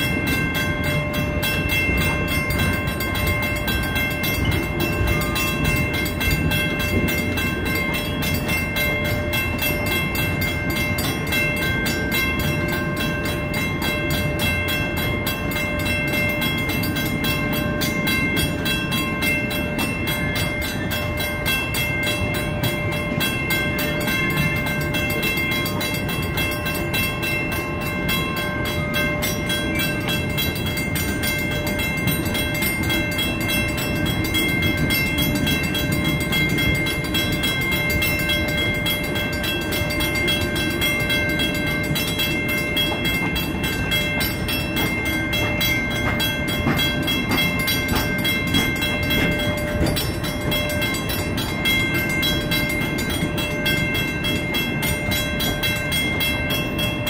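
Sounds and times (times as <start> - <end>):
crossing warning bell ringing: 0.0 - 57.0
train wheels rumbling and clicking: 0.0 - 57.0.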